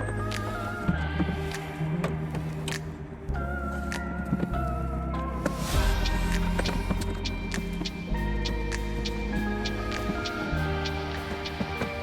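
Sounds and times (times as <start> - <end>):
synth music with steady beat: 0.0 - 12.0.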